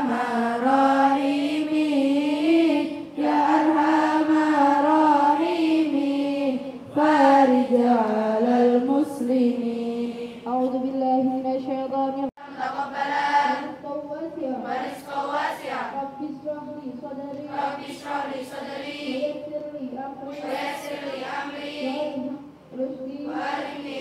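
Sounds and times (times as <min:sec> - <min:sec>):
girls singing a chant in unison: 0:00.0 - 0:10.8, 0:12.4 - 0:16.2, 0:17.1 - 0:24.0.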